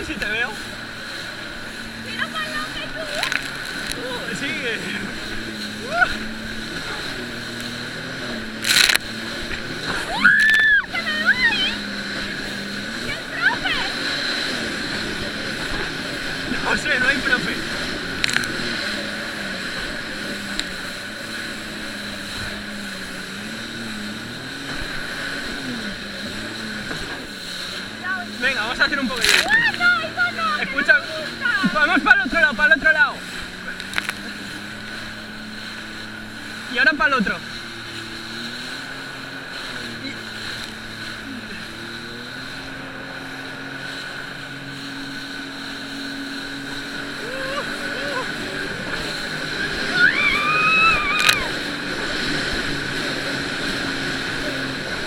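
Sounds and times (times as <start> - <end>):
jet ski engine running: 0.0 - 55.0
rush of wind and water: 0.0 - 55.0.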